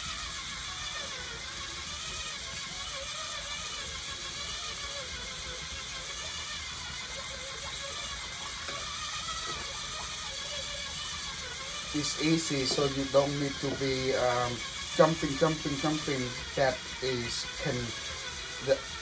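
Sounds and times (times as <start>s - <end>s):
electric egg beater whirring: 0.0s - 19.0s.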